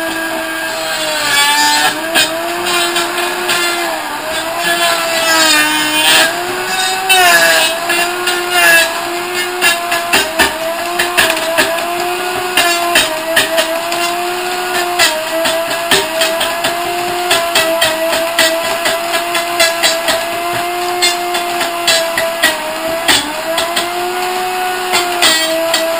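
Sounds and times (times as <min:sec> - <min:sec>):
blender motor whining: 0:00.0 - 0:25.9
wood knocking against blender blades: 0:01.0 - 0:25.9.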